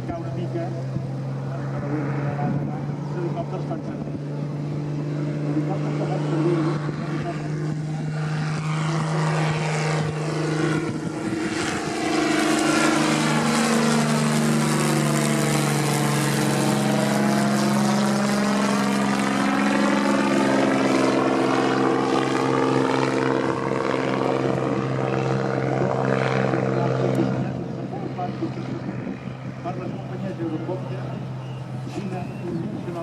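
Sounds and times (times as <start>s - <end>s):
propeller plane droning past: 0.0s - 33.0s.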